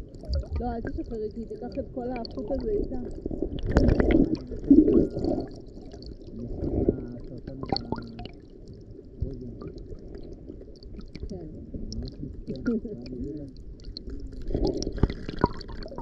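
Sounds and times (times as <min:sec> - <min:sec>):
muffled underwater sloshing: 0:00.0 - 0:16.0.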